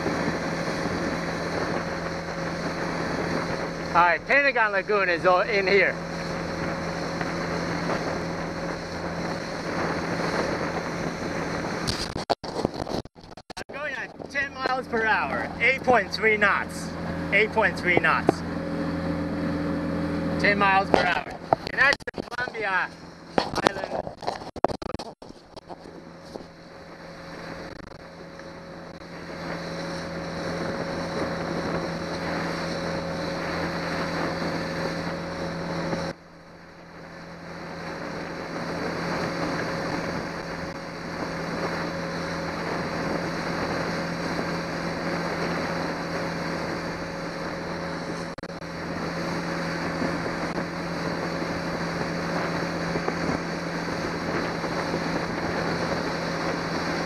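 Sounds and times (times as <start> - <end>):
outboard motor running: 0.0 - 57.0
wind buffeting microphone: 0.0 - 57.0.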